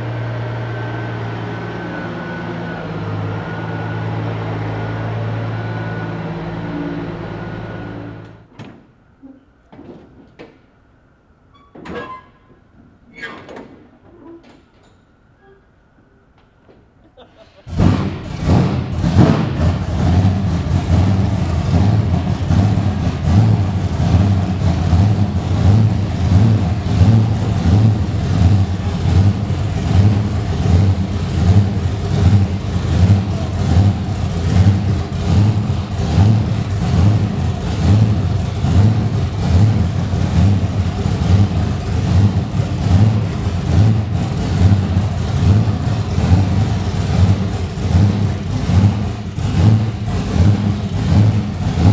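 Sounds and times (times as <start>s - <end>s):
truck engine idling loudly: 0.0s - 8.4s, 17.7s - 51.9s.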